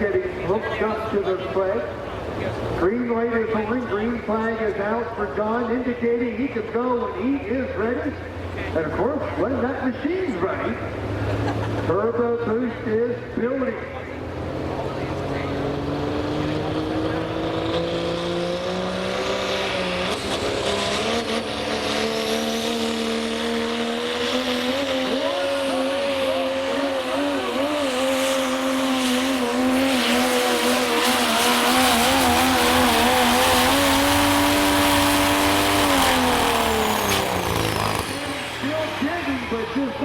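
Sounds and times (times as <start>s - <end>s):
diesel truck engine at full throttle: 0.0s - 40.0s.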